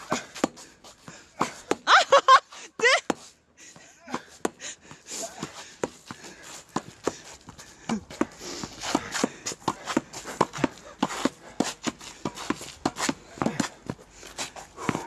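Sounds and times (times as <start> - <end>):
shuffling footsteps: 0.2 - 15.0.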